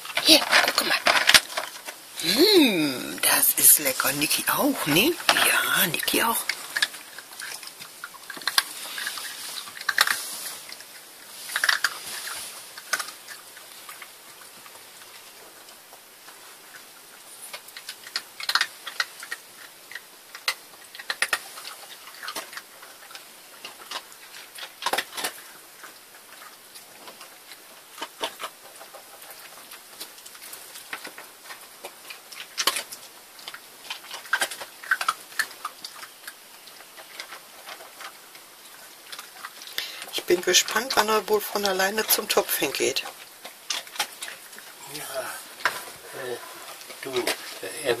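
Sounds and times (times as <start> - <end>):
dog crunching dry kibble: 0.0 - 2.2, 3.5 - 48.0.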